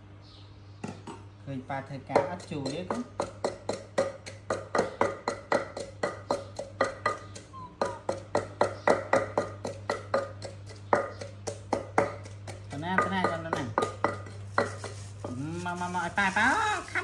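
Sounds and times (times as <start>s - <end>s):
pestle pounding in mortar: 2.0s - 16.2s.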